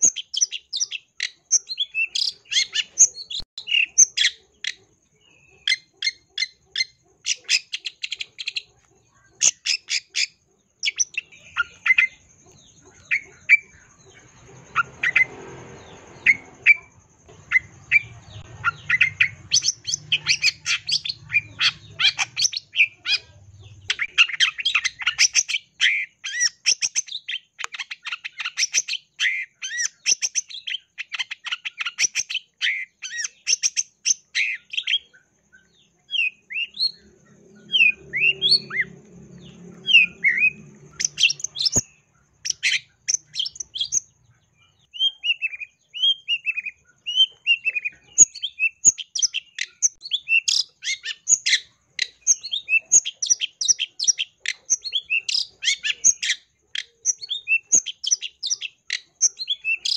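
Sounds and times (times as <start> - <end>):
bird singing scratchy chatter: 0.0 - 59.9.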